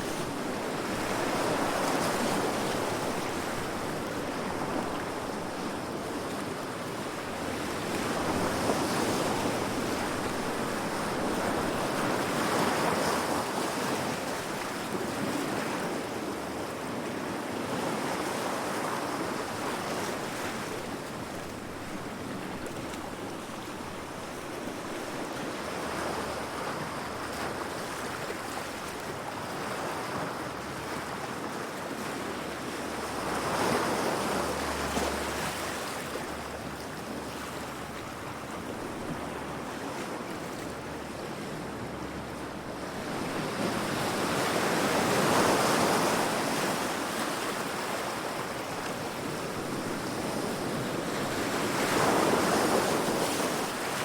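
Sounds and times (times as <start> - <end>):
sea waves breaking against rocks: 0.0 - 54.0.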